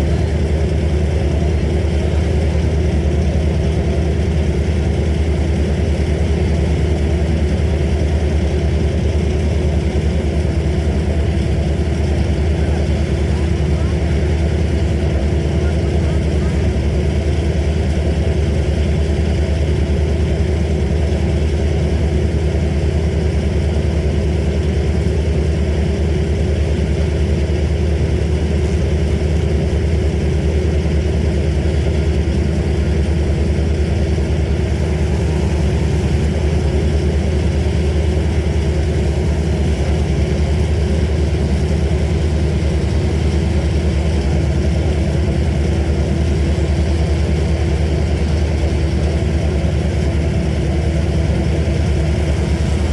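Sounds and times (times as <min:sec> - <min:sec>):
heavy engine idling: 0:00.0 - 0:52.9.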